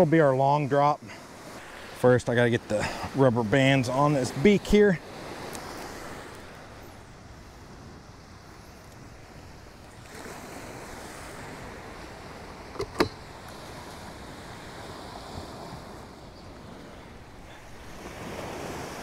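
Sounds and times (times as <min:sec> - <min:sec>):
surf washing onto beach: 0:00.0 - 0:19.0.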